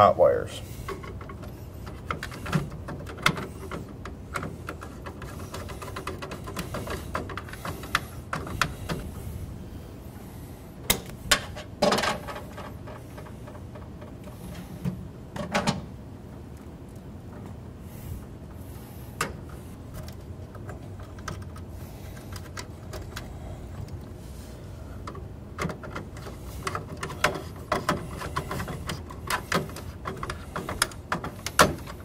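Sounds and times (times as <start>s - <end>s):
wires and metal parts clicking: 0.7s - 9.1s, 10.8s - 15.8s, 18.4s - 32.0s.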